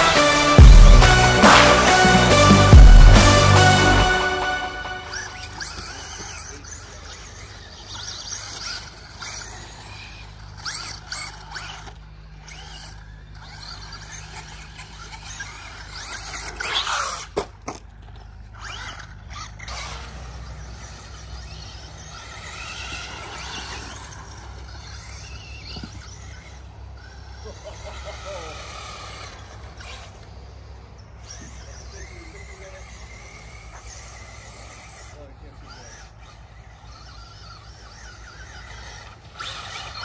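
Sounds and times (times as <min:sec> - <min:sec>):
remote control car motor whine: 0:00.0 - 0:02.0, 0:03.5 - 0:40.0.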